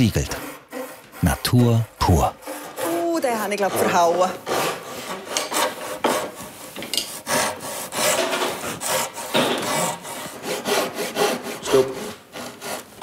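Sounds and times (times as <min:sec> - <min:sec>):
handsaw cutting wood: 0:00.0 - 0:13.0.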